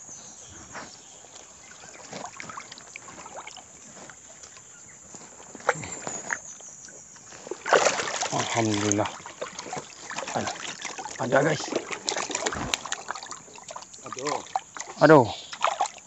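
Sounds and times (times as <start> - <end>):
water sloshing and dripping: 0.6 - 16.0.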